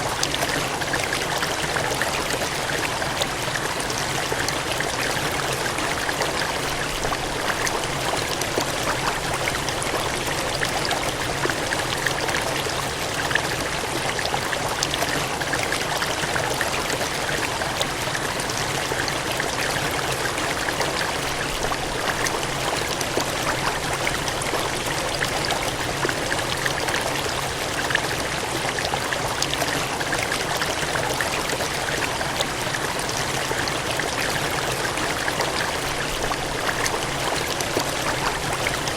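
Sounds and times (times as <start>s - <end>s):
water gushing and splashing: 0.0s - 38.9s.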